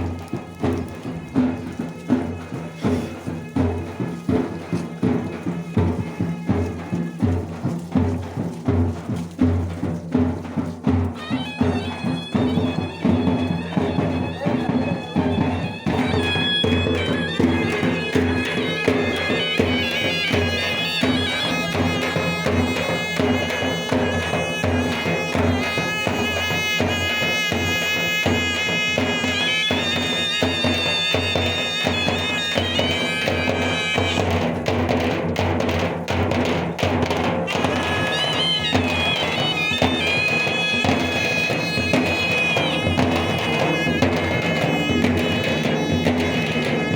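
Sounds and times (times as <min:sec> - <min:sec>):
wind instrument melody: 0:00.0 - 0:35.2, 0:36.8 - 0:46.9
drum beats: 0:00.0 - 0:46.9.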